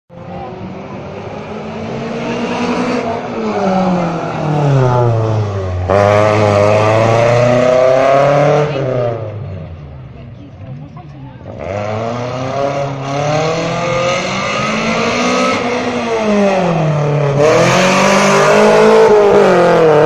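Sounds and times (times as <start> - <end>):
car engine revving: 0.1 - 20.0.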